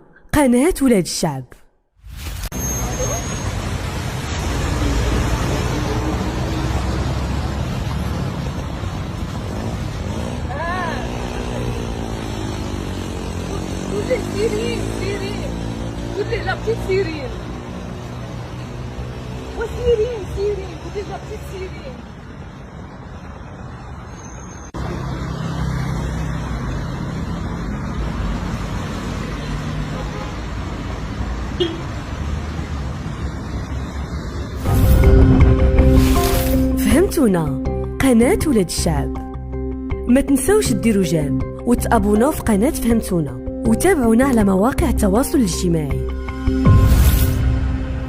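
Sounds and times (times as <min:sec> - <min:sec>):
road traffic noise: 0:02.0 - 0:48.0.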